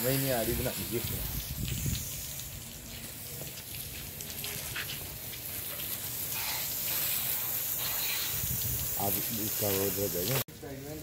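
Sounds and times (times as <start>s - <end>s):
water splashing onto glass panels: 0.0s - 10.5s.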